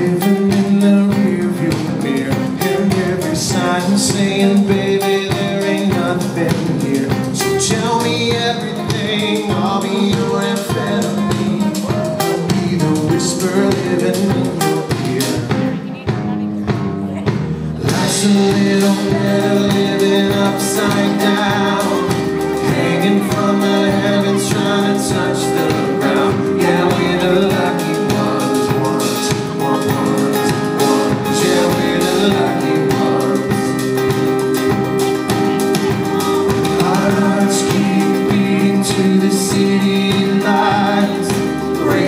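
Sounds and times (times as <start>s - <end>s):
man singing lead vocal: 0.0s - 15.8s, 17.6s - 34.8s, 35.4s - 42.0s
live pop-rock band: 0.0s - 42.0s.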